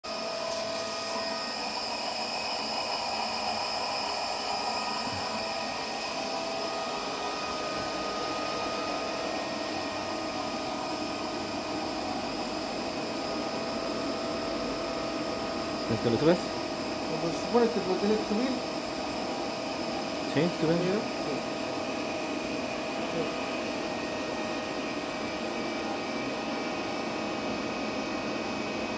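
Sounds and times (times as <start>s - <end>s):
motor drive whir: 0.1s - 28.9s
faint whining tones: 0.2s - 28.9s.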